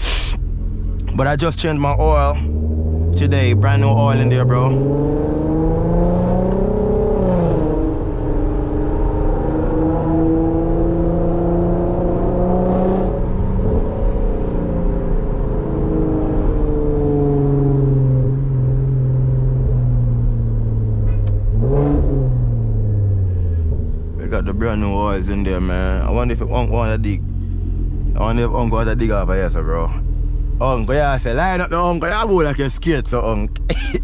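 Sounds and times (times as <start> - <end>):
loud car engine and exhaust: 0.0 - 34.0.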